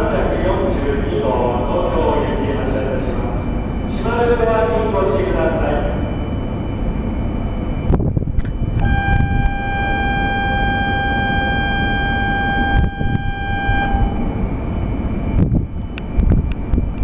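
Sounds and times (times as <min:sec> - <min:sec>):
train low rumble: 0:00.0 - 0:17.0
high-pitched signal tone: 0:01.3 - 0:17.0.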